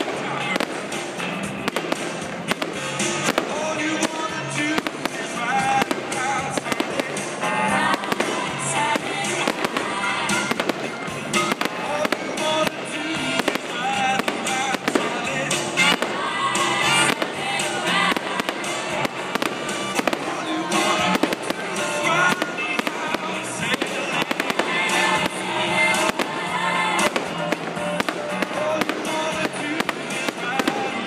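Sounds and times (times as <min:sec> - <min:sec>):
fireworks bursting and crackling: 0:00.0 - 0:31.0
music playing: 0:00.0 - 0:31.0.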